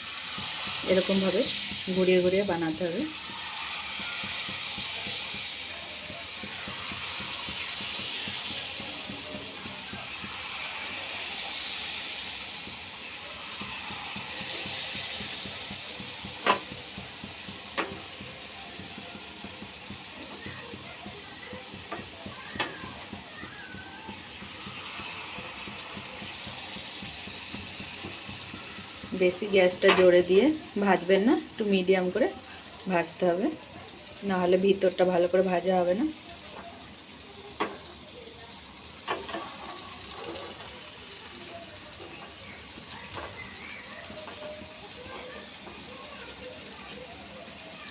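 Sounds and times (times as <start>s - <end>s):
batter sizzling in hot oil: 0.0s - 47.9s.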